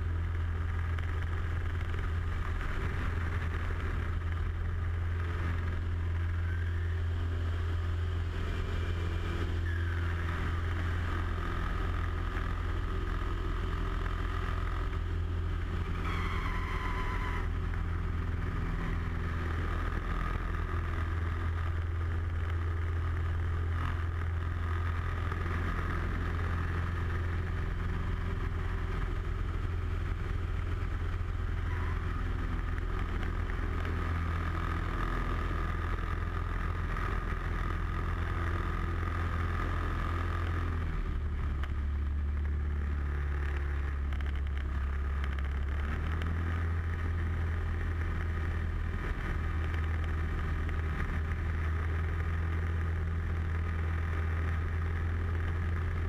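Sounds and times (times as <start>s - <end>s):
propeller airplane engine droning: 0.0s - 56.0s.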